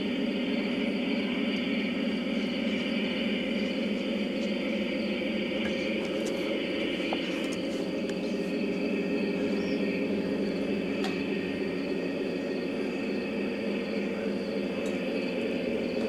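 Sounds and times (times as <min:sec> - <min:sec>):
insects trilling: 0:00.0 - 0:16.0
low hum: 0:00.0 - 0:16.0.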